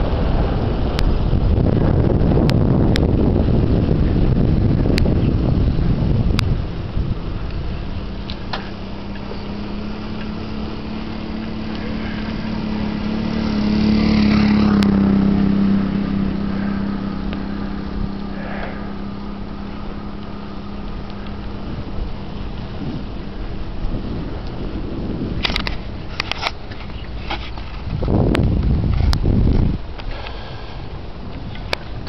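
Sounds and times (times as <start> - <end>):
road noise: 0.0 - 32.0
small vehicle engine humming: 0.0 - 32.0
wind: 0.0 - 32.0.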